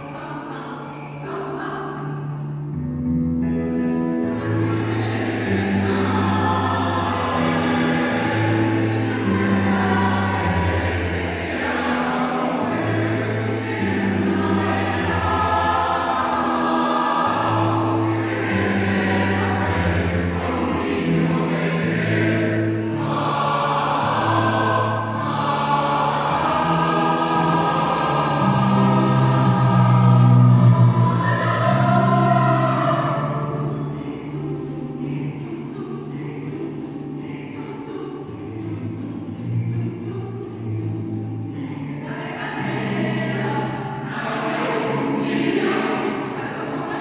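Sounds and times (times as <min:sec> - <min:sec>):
choir singing: 0:00.0 - 0:02.9, 0:03.8 - 0:47.0.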